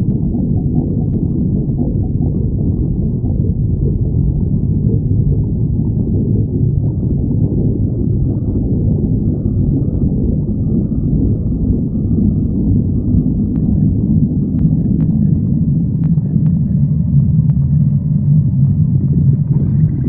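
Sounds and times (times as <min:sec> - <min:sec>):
stomach growling: 0:00.0 - 0:20.0.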